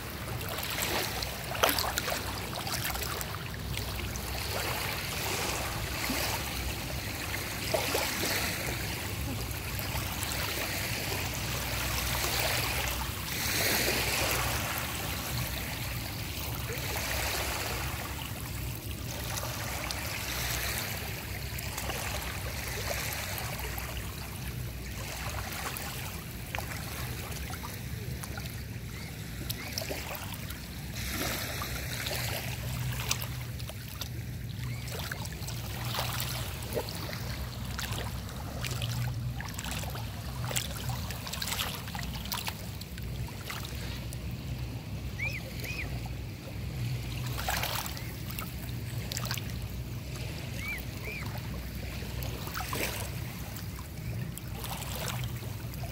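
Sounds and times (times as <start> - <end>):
low steady rumble: 0.0 - 55.9
small splashes: 0.0 - 55.9
small waves lapping: 0.0 - 55.9.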